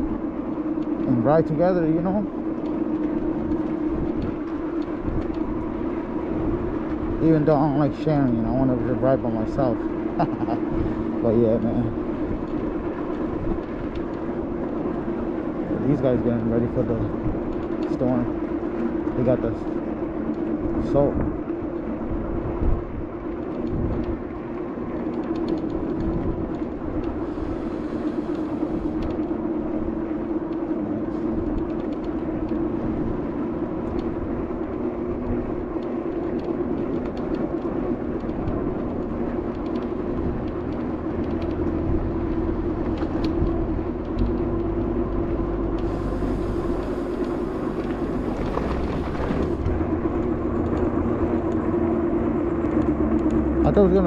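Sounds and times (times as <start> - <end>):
electric motor hum: 0.0 - 54.0
road rumble: 0.0 - 54.0
wind: 0.0 - 54.0.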